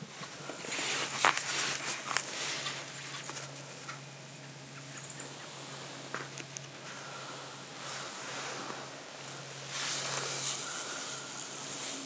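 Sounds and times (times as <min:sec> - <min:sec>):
low steady hum: 0:00.0 - 0:12.0
rustling and crackling: 0:00.0 - 0:12.0.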